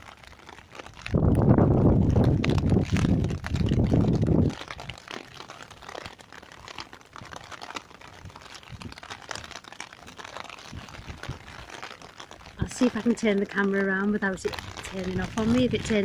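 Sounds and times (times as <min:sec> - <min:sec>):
rain tapping on umbrella: 0:00.0 - 0:16.0.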